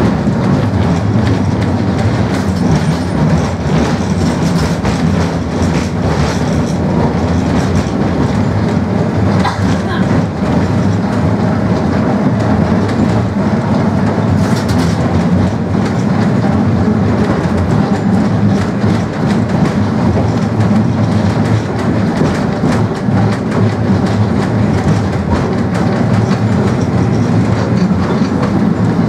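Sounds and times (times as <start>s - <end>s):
tram wheels rumbling on rails: 0.0s - 29.0s.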